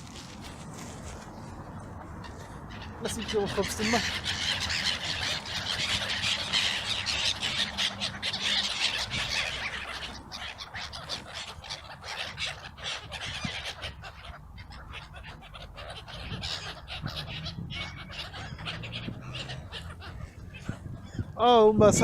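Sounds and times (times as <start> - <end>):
water birds calling: 1.9 - 22.0.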